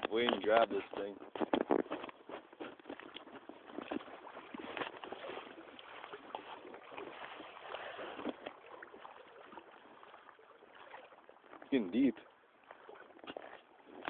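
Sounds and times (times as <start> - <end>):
water splashing around legs: 0.0 - 14.0
rushing river current: 2.6 - 14.0.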